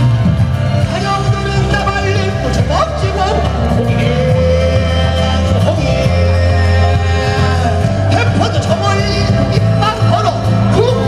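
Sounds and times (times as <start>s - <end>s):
heavy bass line: 0.0s - 11.0s
man singing a long note: 1.2s - 11.0s.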